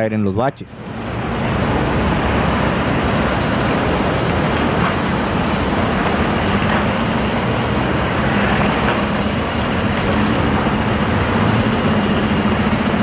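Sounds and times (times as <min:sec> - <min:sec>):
minibus engine humming: 0:00.0 - 0:13.0
traffic noise: 0:00.0 - 0:13.0.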